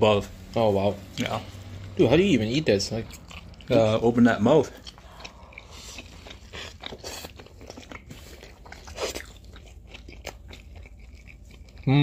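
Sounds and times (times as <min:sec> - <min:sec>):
biting and chewing food: 0:00.2 - 0:12.0.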